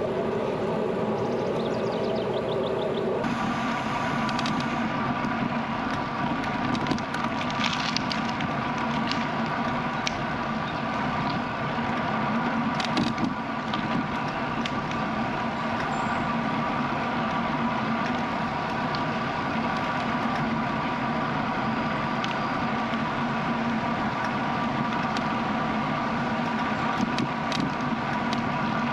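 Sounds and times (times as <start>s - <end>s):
air noise: 0.0s - 28.9s
bicycle tyres and drivetrain hum: 0.0s - 28.9s
bicycle clicks and rattles: 4.0s - 28.9s.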